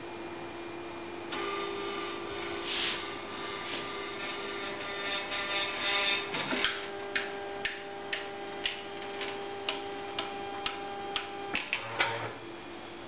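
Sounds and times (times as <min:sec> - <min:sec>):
stepper motors whining and ticking: 0:01.3 - 0:12.4.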